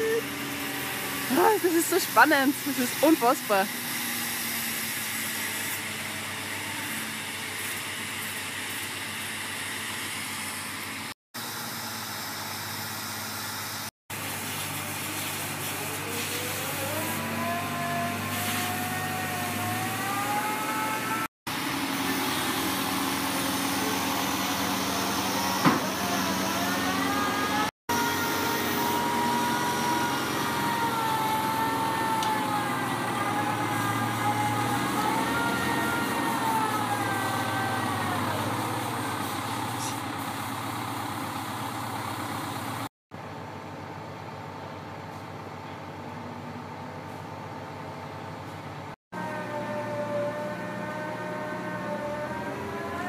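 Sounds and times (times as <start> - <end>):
crane engine with whine: 0.0 - 53.0.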